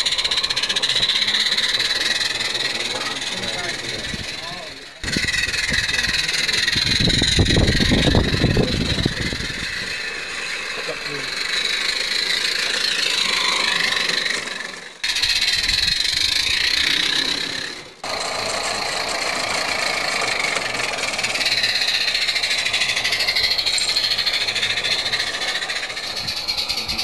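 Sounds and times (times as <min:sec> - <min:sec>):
steam hissing: 0:00.0 - 0:27.0
steam locomotive chuffing: 0:00.0 - 0:27.0
wheels clattering on track: 0:00.0 - 0:27.0.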